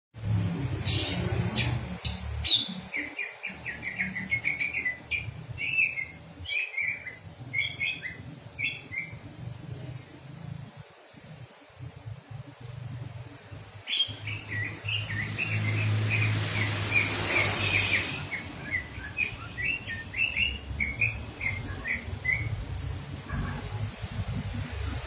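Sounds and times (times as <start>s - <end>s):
songbird chirping: 0.7s - 12.6s, 13.3s - 23.2s.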